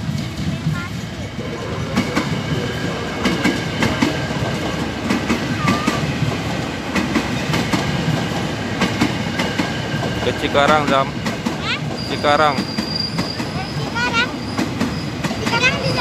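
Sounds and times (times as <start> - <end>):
electric train rumbling past: 0.0 - 16.0.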